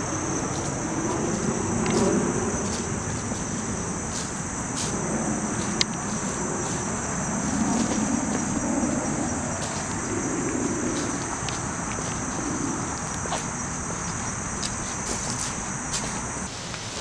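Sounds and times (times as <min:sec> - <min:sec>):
insects singing: 0:00.0 - 0:17.0.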